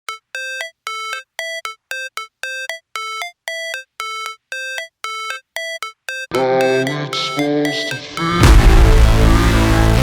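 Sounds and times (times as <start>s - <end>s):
synthesizer beep-like melody: 0.1s - 9.5s.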